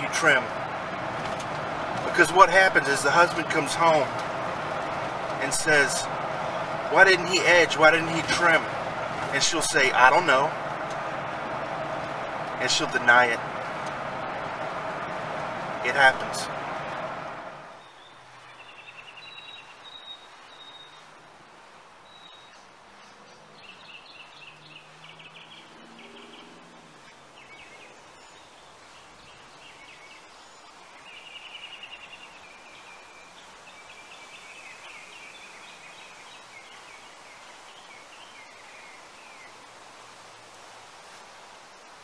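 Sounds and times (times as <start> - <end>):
steady outdoor hiss: 0.0 - 42.0.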